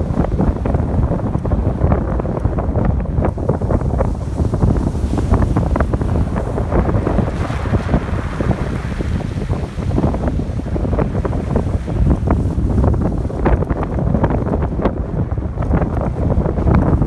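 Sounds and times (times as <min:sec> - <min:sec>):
ocean waves washing on shore: 0:00.0 - 0:17.0
wind buffeting microphone: 0:00.0 - 0:17.0.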